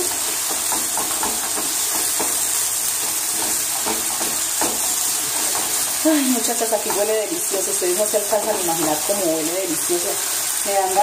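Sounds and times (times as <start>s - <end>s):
wooden spatula scraping a pan: 0.0s - 10.3s
onions and liver sizzling in oil: 0.0s - 11.0s.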